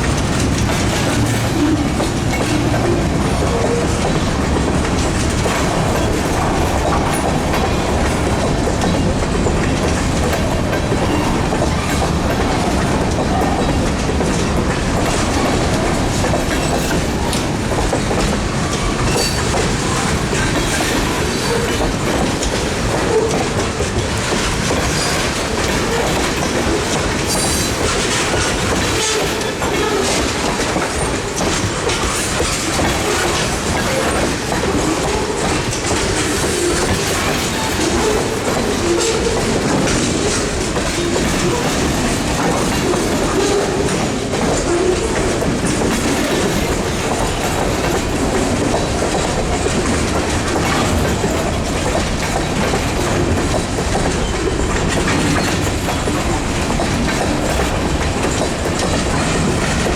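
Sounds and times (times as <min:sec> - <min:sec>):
freight train wheels clicking over rails: 0:00.0 - 0:59.9.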